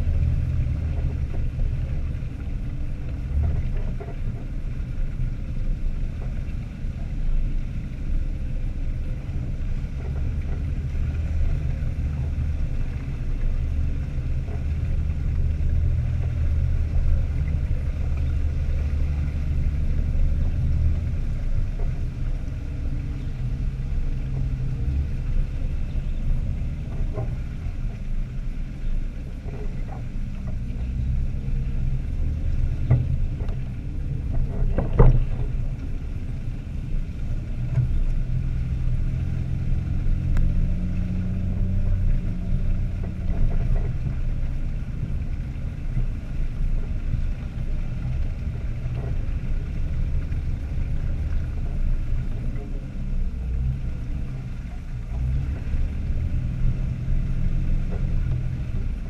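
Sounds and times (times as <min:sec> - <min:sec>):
vehicle engines running low: 0:00.0 - 0:59.0.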